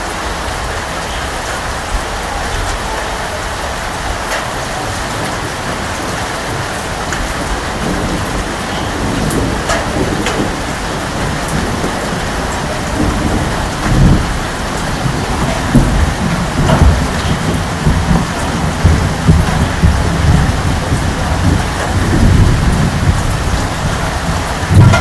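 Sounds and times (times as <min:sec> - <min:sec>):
heavy rain: 0:00.0 - 0:25.0
rain drops ticking: 0:00.0 - 0:25.0
thunder rumbling: 0:00.0 - 0:25.0.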